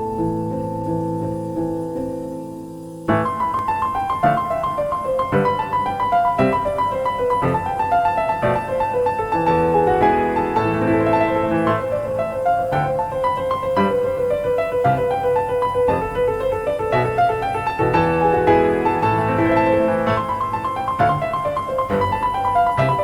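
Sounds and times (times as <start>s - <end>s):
soft piano chords: 0.0s - 23.0s.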